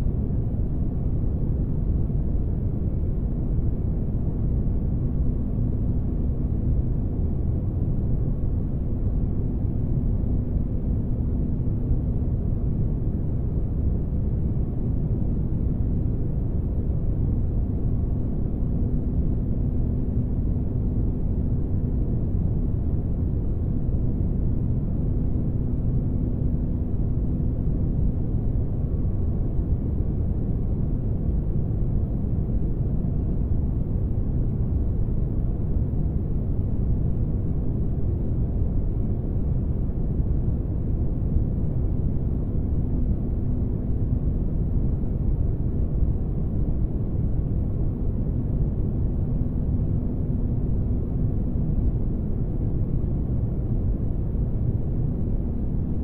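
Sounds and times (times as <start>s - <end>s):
faint low hum: 0.0s - 56.0s
low rumble of noise: 0.0s - 56.0s.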